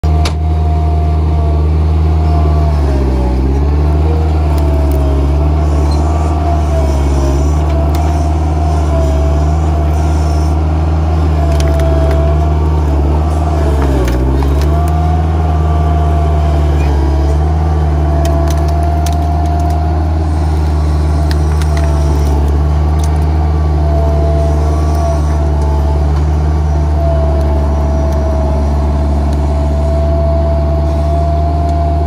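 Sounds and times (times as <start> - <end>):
skid steer engine whining: 0.0 - 32.0.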